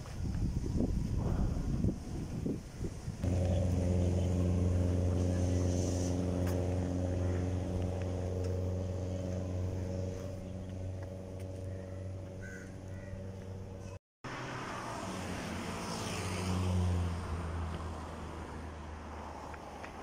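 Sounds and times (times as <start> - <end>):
vehicle engine humming: 3.2 - 20.0.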